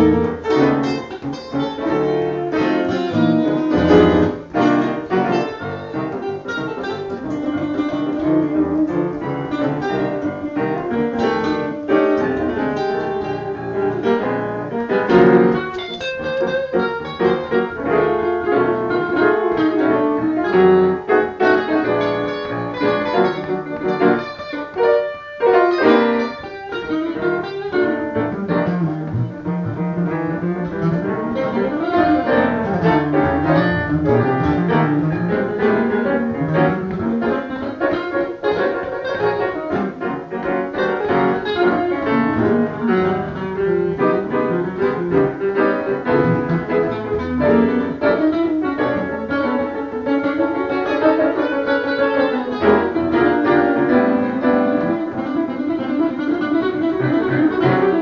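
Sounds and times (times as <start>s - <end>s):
electric guitar: 0.0s - 58.0s
piano: 0.0s - 58.0s.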